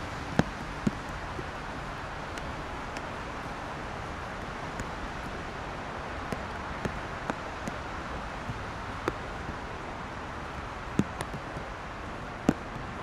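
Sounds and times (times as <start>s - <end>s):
rain: 0.0s - 13.0s
raindrops tapping near microphone: 0.0s - 13.0s
wet highway traffic: 0.0s - 13.0s.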